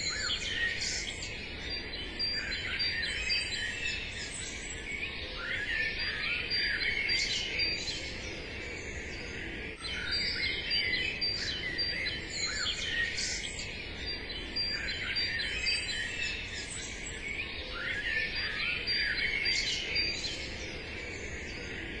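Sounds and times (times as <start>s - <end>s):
small birds chirping and trilling: 0.0s - 22.0s.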